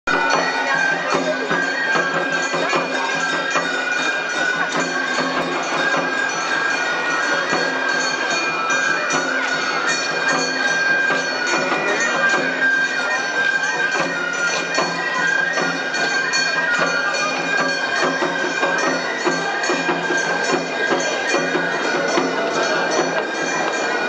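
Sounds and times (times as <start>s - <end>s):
crowd chatter: 0.0s - 24.0s
bamboo flutes: 0.1s - 24.0s.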